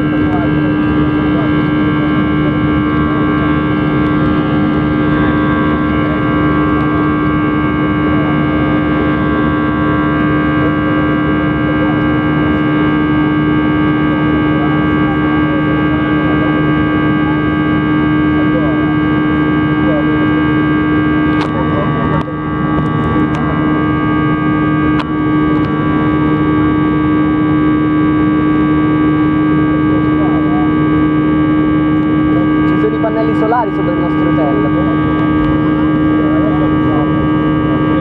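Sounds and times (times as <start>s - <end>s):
high whining tones: 0.0s - 38.0s
jet engine drone in cabin: 0.0s - 38.0s.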